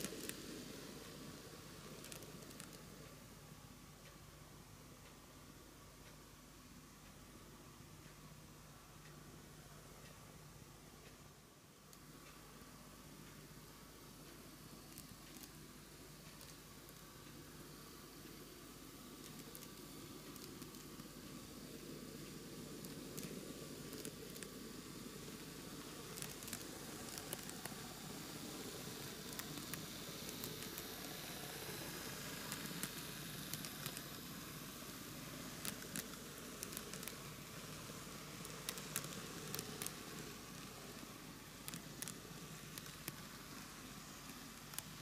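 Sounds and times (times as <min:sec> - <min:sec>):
model train rolling whir: 0:00.0 - 0:03.3, 0:12.0 - 0:45.0.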